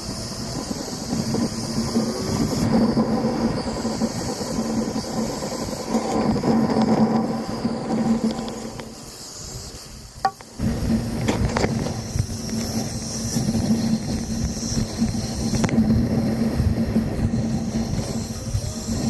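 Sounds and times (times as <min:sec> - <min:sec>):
motorcycle engine hum: 0:00.0 - 0:19.0
road and wind noise: 0:00.0 - 0:19.0.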